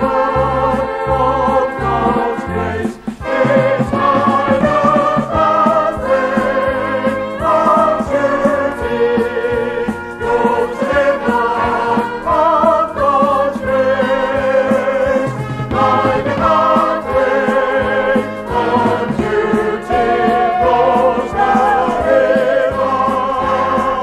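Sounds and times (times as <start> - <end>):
instrumental accompaniment: 0.0 - 24.0
vocal group singing gospel: 0.0 - 24.0.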